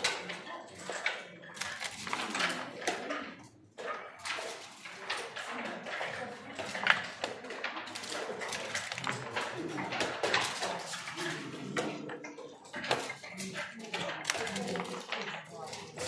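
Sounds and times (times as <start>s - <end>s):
checkers and dice clicking: 0.0s - 16.0s.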